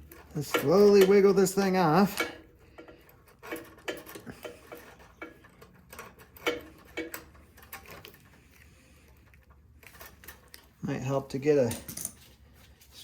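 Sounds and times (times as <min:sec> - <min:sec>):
small clicks of hard parts shifting: 0:00.0 - 0:10.8, 0:11.6 - 0:12.3.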